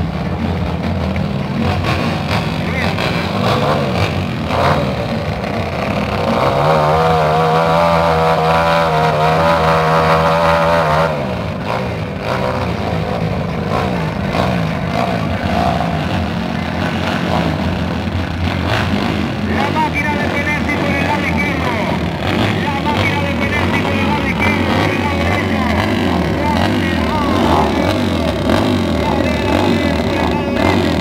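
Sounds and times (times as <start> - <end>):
motorcycle engine high revs: 0.0 - 31.0
motorcycle engines running: 0.0 - 31.0.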